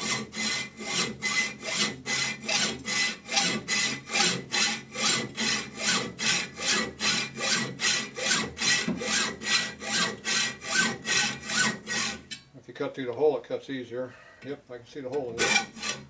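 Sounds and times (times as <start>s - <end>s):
hacksaw cutting metal: 0.0s - 12.4s, 15.3s - 16.0s.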